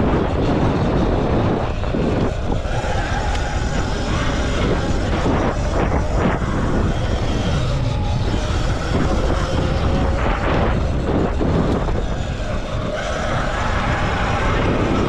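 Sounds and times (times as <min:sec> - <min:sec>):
bike rattling: 0:00.0 - 0:15.0
wind rushing: 0:00.0 - 0:15.0.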